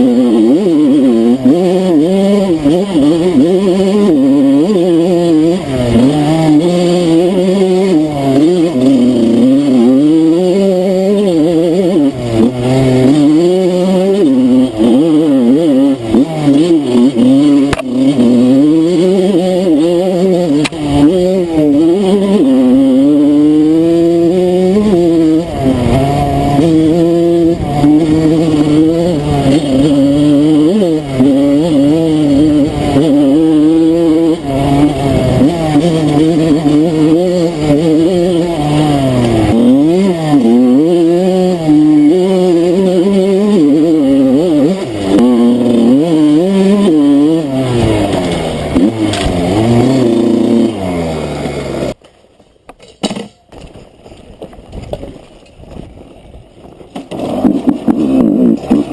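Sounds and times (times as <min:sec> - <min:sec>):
motorcycle engine revving: 0:00.0 - 0:52.0, 0:53.2 - 0:58.9.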